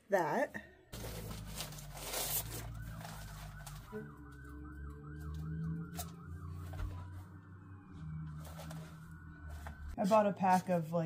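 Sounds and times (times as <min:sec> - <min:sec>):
emergency vehicle siren yelping: 0:01.0 - 0:10.2.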